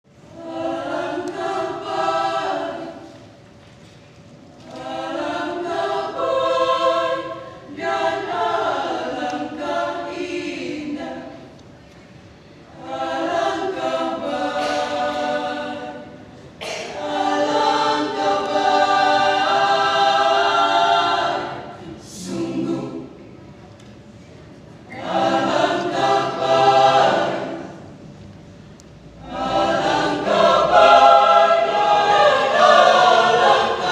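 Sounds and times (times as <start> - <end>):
choir singing: 0.2 - 3.4, 4.6 - 11.6, 12.6 - 23.5, 24.9 - 28.1, 29.2 - 33.9.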